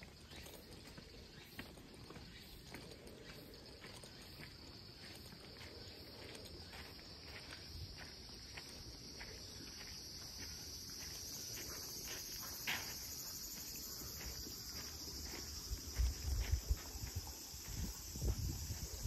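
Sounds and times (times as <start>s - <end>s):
faint footsteps: 0.3s - 19.0s
high-pitched insect drone: 3.2s - 19.0s.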